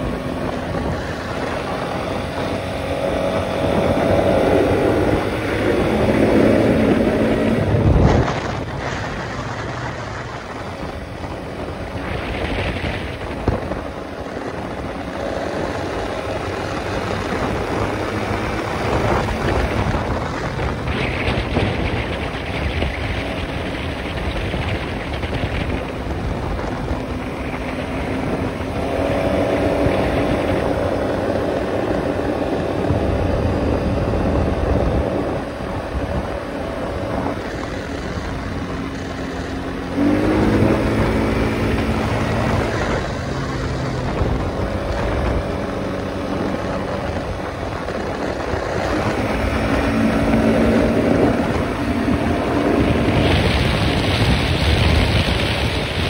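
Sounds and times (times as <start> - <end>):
atv engine under load: 0.0 - 56.0
wind buffeting microphone: 0.0 - 56.0.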